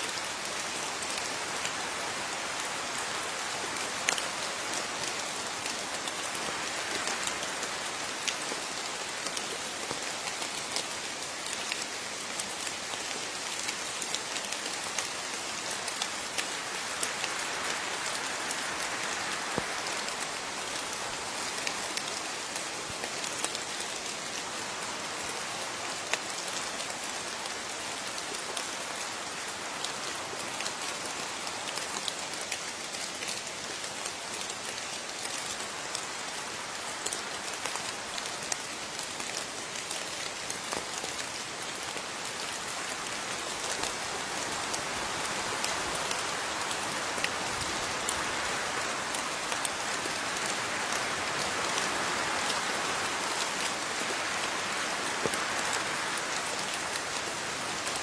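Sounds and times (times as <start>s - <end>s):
rain drops ticking on a surface: 0.0s - 58.0s.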